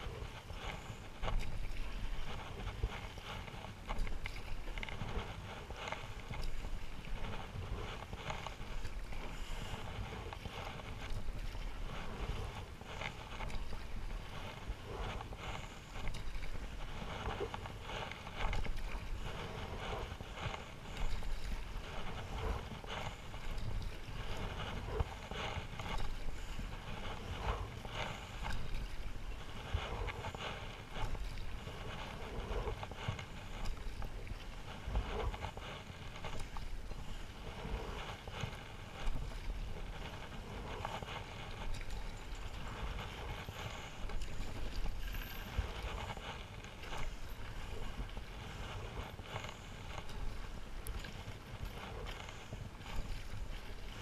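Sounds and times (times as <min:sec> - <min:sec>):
paddle splashing through water: 0:00.0 - 0:54.0
wind rumbling on microphone: 0:00.0 - 0:54.0.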